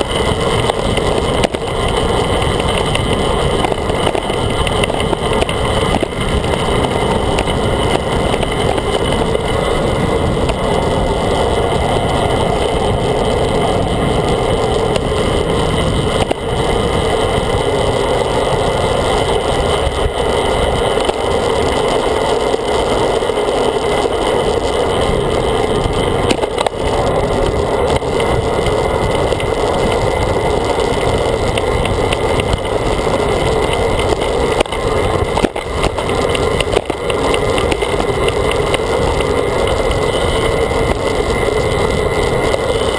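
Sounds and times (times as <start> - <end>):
bike tyres on asphalt: 0.0 - 42.9
wind rush: 0.0 - 42.9.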